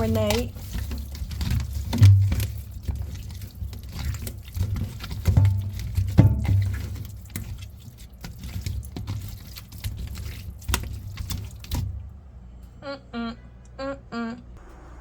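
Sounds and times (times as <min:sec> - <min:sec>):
wet squishing of raw chicken: 0:00.0 - 0:12.1.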